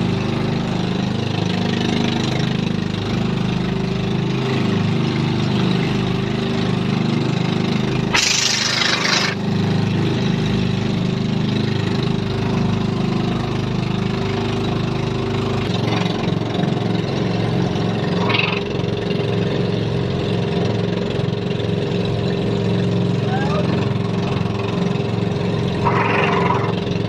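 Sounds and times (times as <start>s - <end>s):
small boat engine running: 0.0s - 27.0s.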